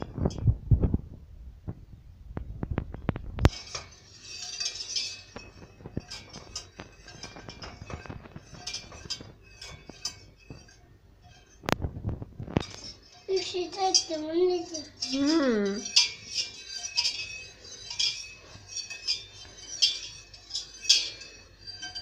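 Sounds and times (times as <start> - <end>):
utensil scraping steel pot: 2.7 - 22.0.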